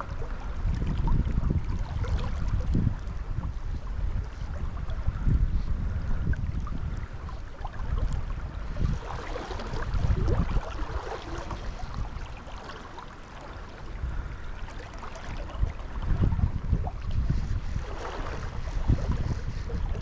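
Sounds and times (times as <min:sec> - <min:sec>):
river water flowing: 0:00.0 - 0:03.4, 0:06.0 - 0:19.2
wind on microphone: 0:00.0 - 0:20.0.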